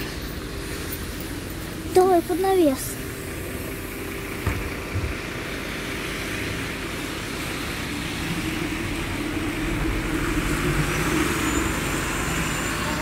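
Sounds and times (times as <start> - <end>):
bus engine pulling away: 0.0 - 13.0
tyres hissing on wet road: 0.0 - 13.0.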